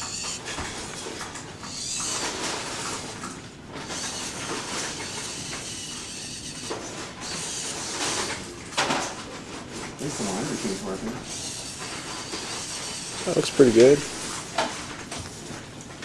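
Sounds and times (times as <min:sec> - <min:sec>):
robot motors whirring: 0:00.0 - 0:08.5, 0:10.0 - 0:14.7.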